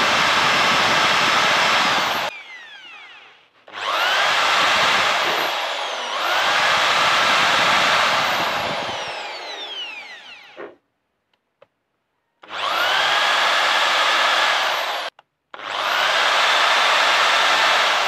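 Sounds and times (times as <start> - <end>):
electric drill whining: 0.0 - 10.8, 12.4 - 18.0.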